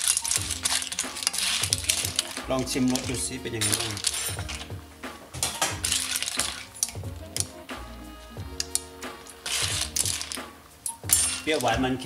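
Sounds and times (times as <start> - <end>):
clam shells clinking in a wok: 0.0 - 4.7, 5.4 - 7.6, 8.6 - 11.8
background music: 0.0 - 12.0.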